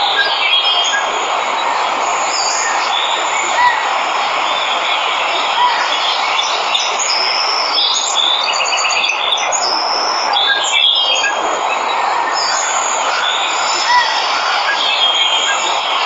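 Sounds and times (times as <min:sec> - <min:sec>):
waterfall rushing: 0:00.0 - 0:08.7, 0:09.4 - 0:16.0
birds chirping and trilling: 0:00.0 - 0:16.0.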